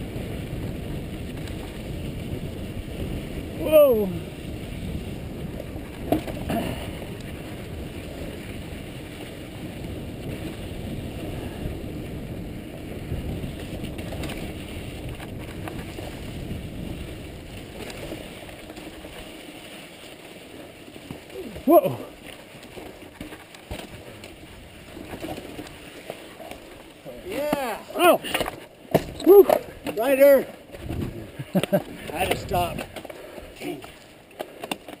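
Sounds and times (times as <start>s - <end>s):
bike tyres rumbling and rattling: 0.0s - 35.0s
wheels knocking on rocks: 0.1s - 3.5s, 4.4s - 35.0s.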